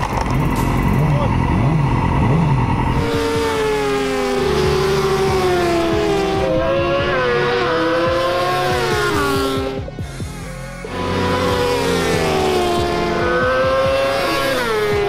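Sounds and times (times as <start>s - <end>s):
racing motorcycle engines passing: 0.0s - 10.0s, 10.8s - 15.0s.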